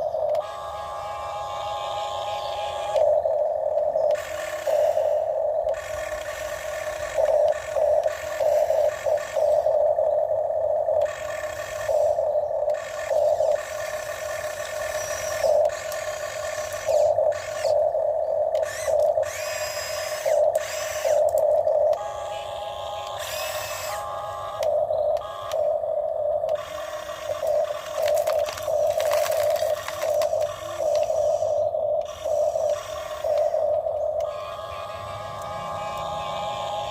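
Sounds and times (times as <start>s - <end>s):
electric motors whining: 0.0s - 36.9s.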